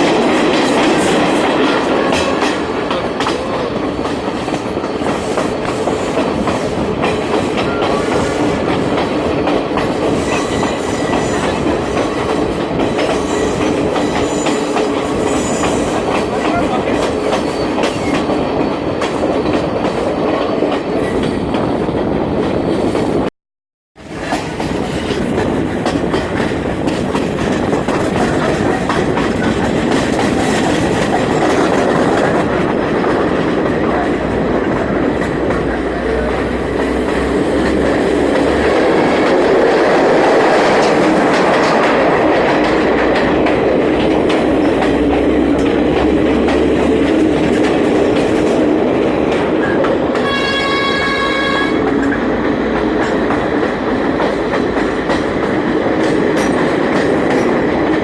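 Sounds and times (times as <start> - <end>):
train rumbling: 0.0 - 23.3, 24.0 - 58.0.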